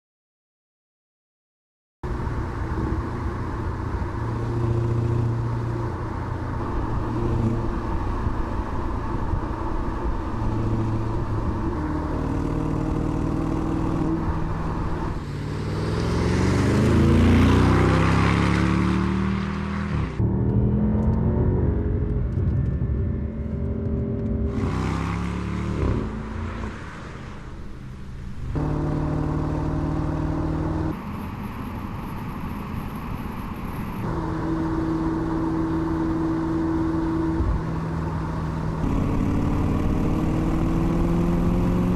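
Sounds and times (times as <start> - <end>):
car engine revving: 2.1 - 41.9.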